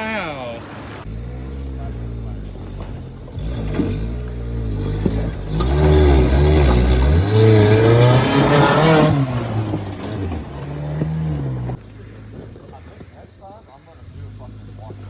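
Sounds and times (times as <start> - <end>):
engine revving: 1.0 - 15.0.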